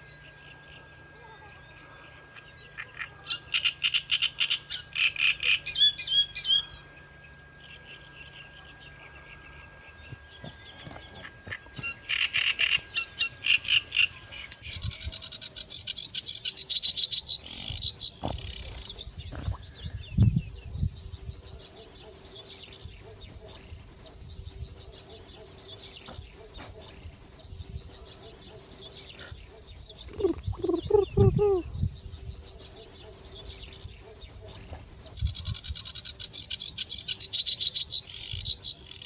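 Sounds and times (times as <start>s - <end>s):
high-pitched hum: 0.0s - 39.0s
birds chirping: 2.0s - 39.0s.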